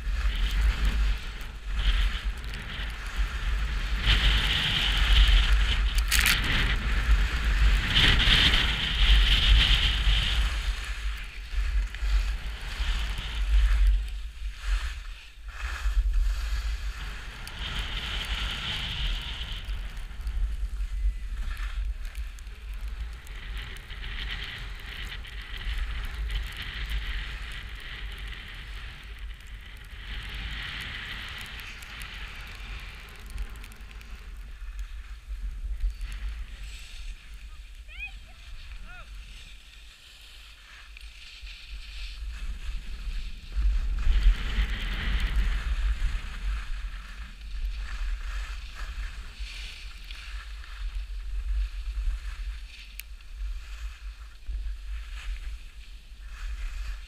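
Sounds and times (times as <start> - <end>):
wind buffeting microphone: 0.0 - 39.7, 41.4 - 57.0
skis scraping over snow: 0.0 - 57.0.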